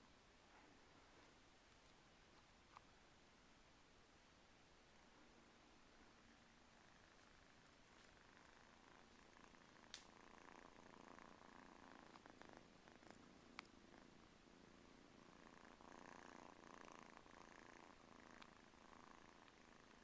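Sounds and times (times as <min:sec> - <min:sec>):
kittens purring: 0:00.0 - 0:20.0.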